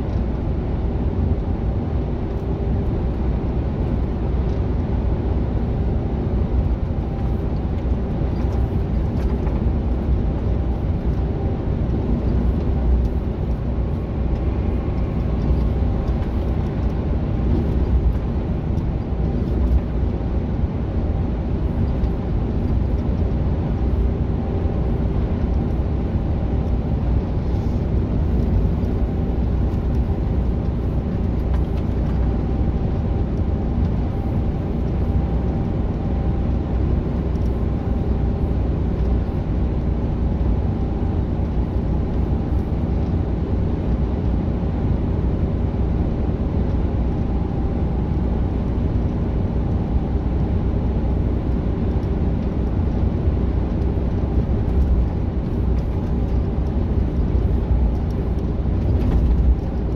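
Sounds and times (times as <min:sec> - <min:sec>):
faint steady hum tones: 0:00.0 - 0:59.9
truck engine and road drone: 0:00.0 - 0:59.9.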